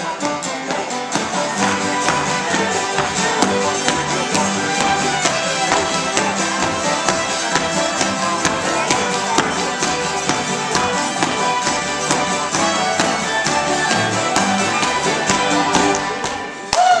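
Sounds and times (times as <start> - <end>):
string band playing dance tune: 0.0 - 17.0.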